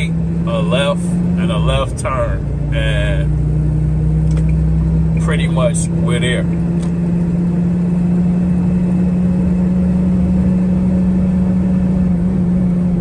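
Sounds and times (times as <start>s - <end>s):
road noise: 0.0s - 13.0s
truck engine drone inside cab: 0.0s - 13.0s.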